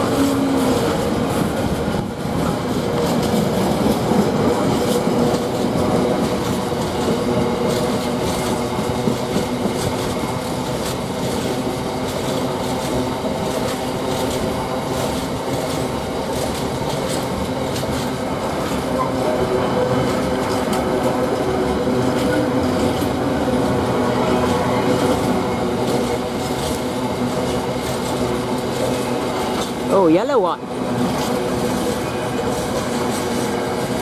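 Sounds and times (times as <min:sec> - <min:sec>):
train wheels clacking over rail joints: 0:00.0 - 0:34.0.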